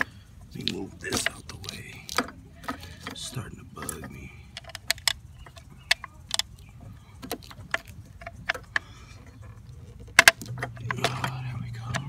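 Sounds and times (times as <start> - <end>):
tools clicking and knocking: 0.0 - 12.0.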